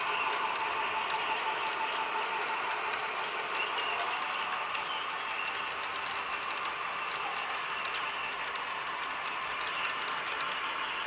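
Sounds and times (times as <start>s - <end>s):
metal wheels clicking over rail joints: 0.0s - 11.0s
model train cars rolling on track: 0.0s - 11.0s.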